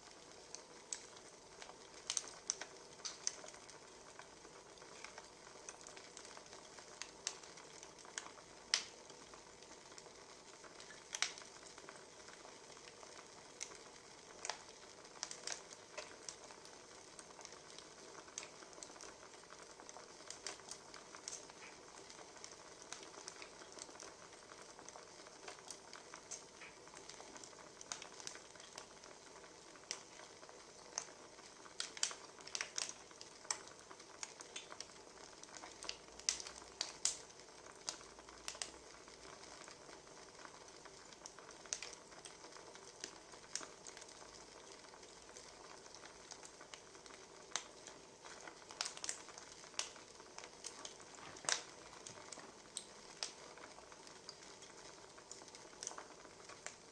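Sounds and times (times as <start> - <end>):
firewood crackling and popping: 0.0 - 56.9.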